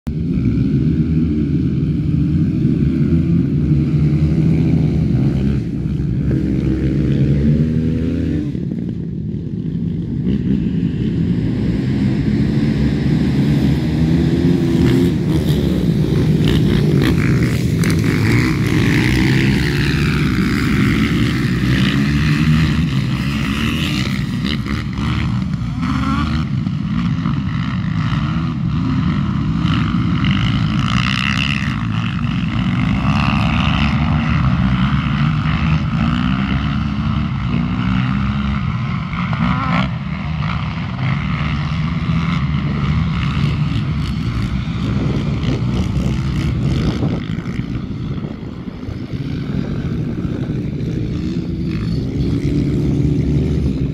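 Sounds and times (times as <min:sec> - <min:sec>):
quad bike engines revving: 0:00.0 - 0:53.9.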